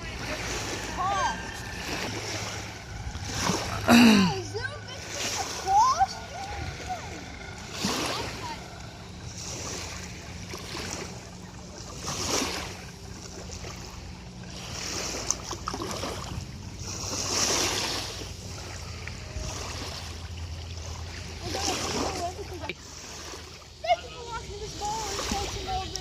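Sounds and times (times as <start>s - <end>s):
lake water rushing: 0.0s - 26.0s
steady low hum: 0.0s - 26.0s
wind: 0.0s - 26.0s.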